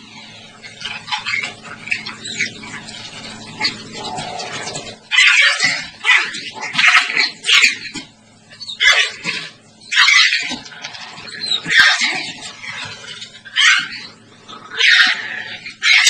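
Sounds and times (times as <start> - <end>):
dogs barking: 0.0 - 16.0.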